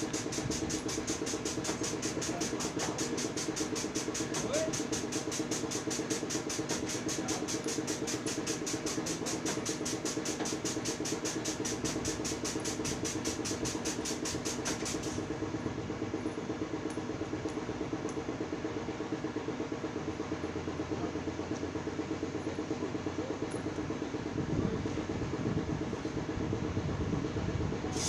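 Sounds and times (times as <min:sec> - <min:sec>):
motor running with rhythmic pulse: 0:00.0 - 0:28.0.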